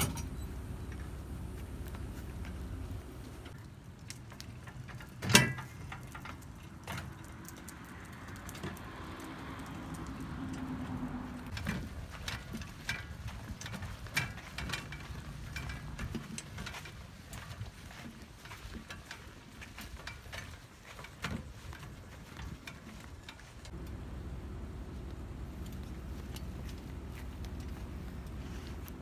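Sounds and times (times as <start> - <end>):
cart rattling and clanking: 0.0 - 23.9.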